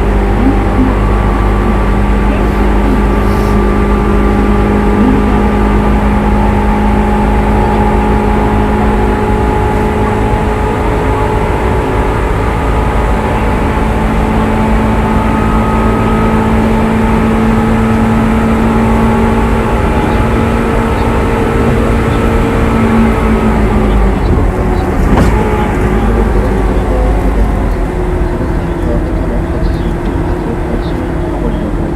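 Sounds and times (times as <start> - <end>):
traction motor whine: 0.0 - 31.9
wheels rumbling on rail: 0.0 - 31.9.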